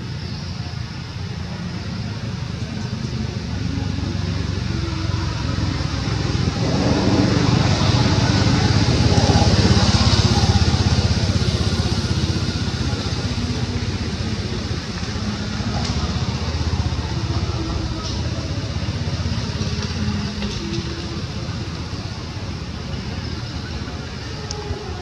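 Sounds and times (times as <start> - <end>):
motor vehicle engine running: 0.0 - 25.0.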